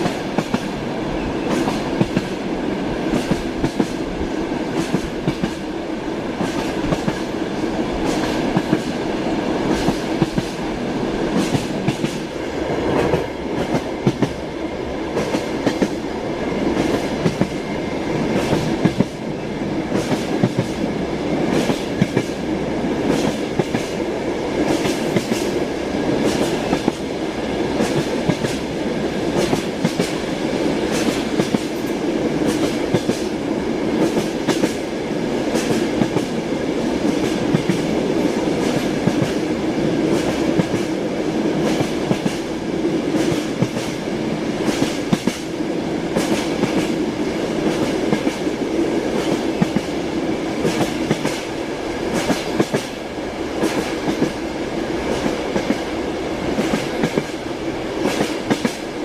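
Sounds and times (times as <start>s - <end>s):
train rumbling: 0.0s - 59.0s
wheels clacking on rails: 0.0s - 59.0s.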